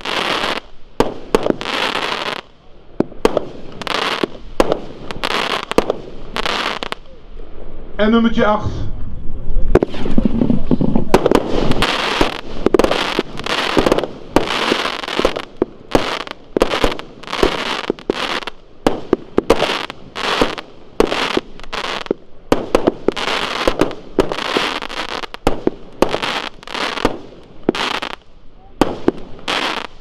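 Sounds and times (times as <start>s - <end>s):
firework shots popping and hissing: 0.0s - 7.2s, 9.7s - 30.0s.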